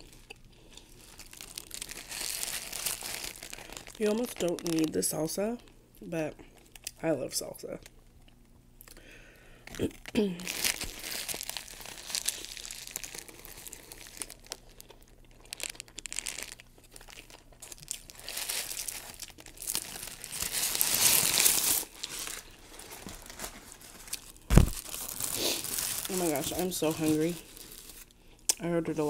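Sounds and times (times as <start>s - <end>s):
wrapper crinkling and rustling: 0.0s - 5.8s, 9.7s - 28.2s.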